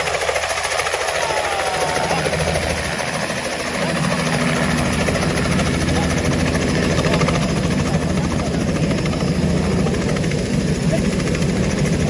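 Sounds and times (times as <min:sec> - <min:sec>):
helicopter engine: 0:00.0 - 0:12.0
helicopter rotor chopping: 0:00.0 - 0:12.0.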